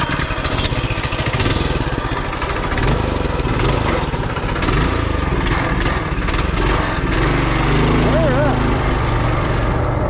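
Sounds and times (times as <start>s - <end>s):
minibike engine revving: 0.0s - 10.0s.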